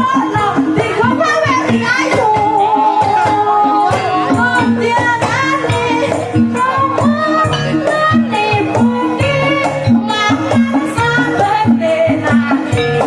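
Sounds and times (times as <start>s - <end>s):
person singing: 0.0s - 13.0s
repeating percussion beat: 0.0s - 13.0s.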